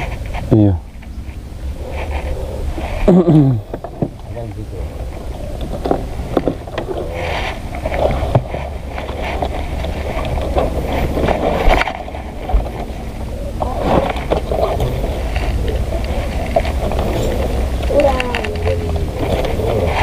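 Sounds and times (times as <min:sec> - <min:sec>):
leafy branches rustling: 0:00.0 - 0:20.0
wind on microphone: 0:00.0 - 0:20.0.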